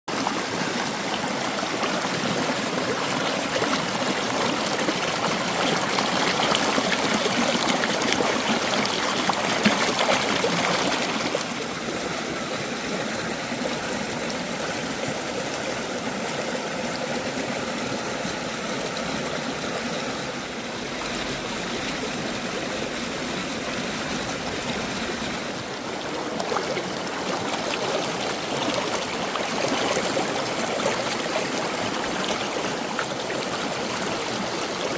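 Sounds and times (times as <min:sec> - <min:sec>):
stream running over rocks: 0:00.1 - 0:34.9.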